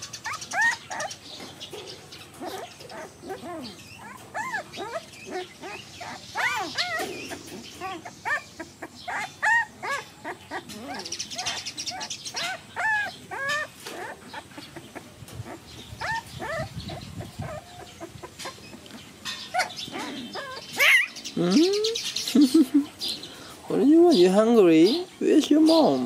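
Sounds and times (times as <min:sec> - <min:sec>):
puppies whimpering and yelping: 0:00.0 - 0:23.6.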